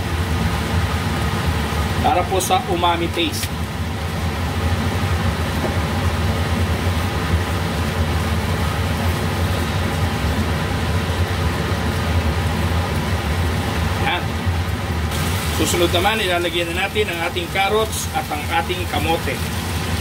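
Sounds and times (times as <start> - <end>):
constant low hum: 0.0 - 20.0
meat sizzling in skillet: 3.3 - 20.0.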